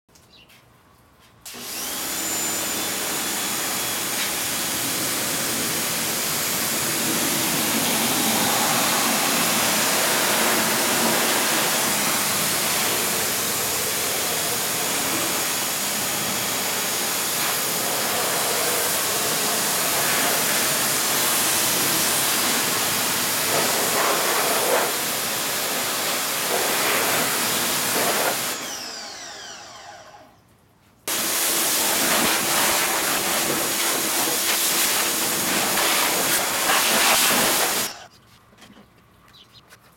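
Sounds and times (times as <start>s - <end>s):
pressure washer spraying: 1.5s - 28.7s, 31.1s - 38.1s.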